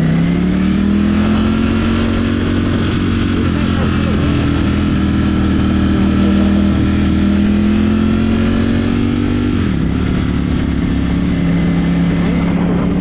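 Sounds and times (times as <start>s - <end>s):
rush of riding wind: 0.0s - 13.0s.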